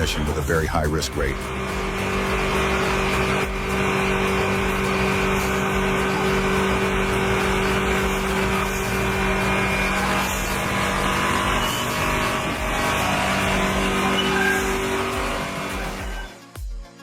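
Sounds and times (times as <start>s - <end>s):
truck engine running: 0.0s - 16.3s.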